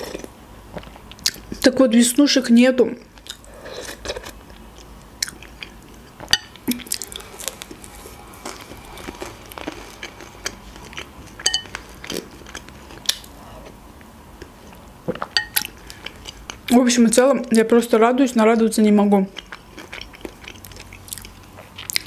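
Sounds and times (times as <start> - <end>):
person chewing food: 0.0 - 1.6, 3.2 - 16.7, 19.4 - 22.0.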